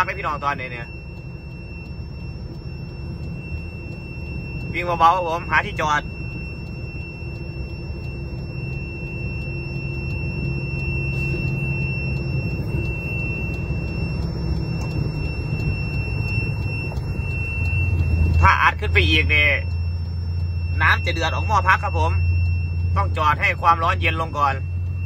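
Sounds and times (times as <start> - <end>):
diesel truck engine running: 0.0 - 25.0
steady high-pitched tone: 0.0 - 25.0.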